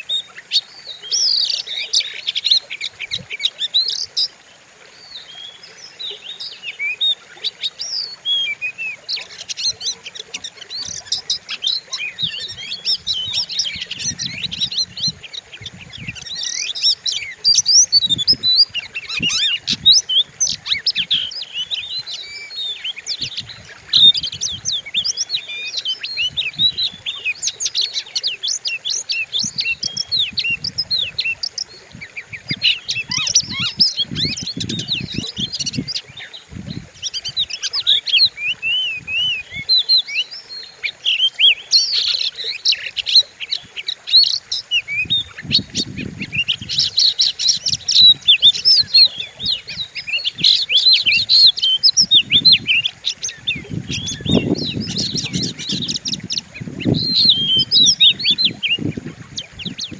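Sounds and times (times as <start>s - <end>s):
bird singing whistles and chirps: 5.1s - 43.0s, 44.1s - 59.9s.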